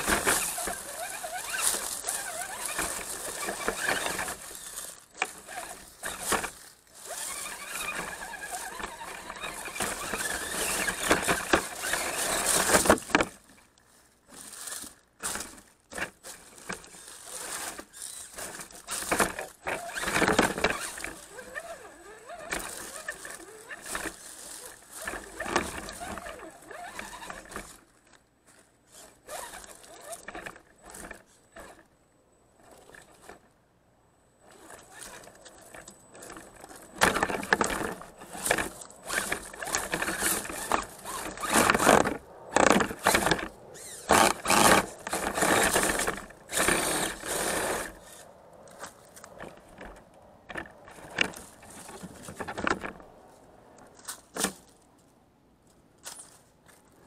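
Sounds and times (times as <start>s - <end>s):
toy car scraping over rocks: 0.0s - 31.9s, 32.5s - 33.6s, 34.4s - 54.8s.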